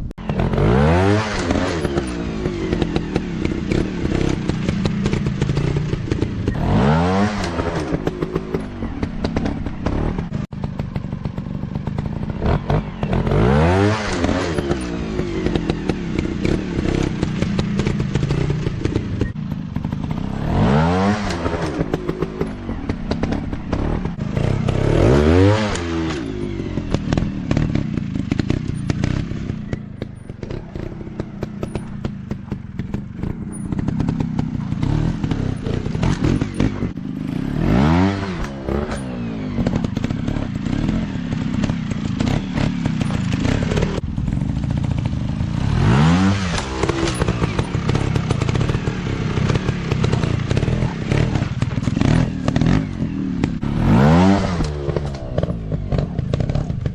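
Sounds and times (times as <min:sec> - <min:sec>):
dirt bike engines running hard: 0:00.0 - 0:56.9
dirt bikes passing by: 0:00.0 - 0:56.9.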